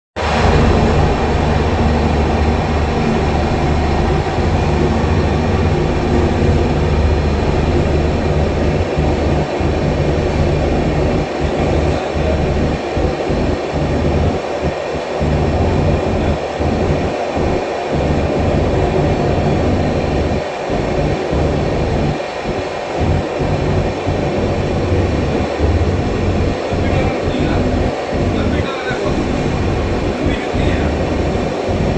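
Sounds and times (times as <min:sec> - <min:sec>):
low hum: 0:00.2 - 0:31.9
train rumbling: 0:00.2 - 0:31.9.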